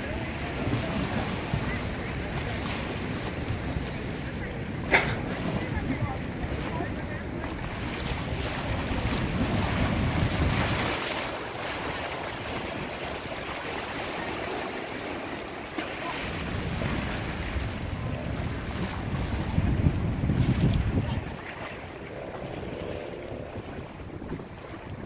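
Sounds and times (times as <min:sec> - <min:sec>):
harbor water washing: 0:00.0 - 0:25.0
wind buffeting microphone: 0:00.0 - 0:25.0.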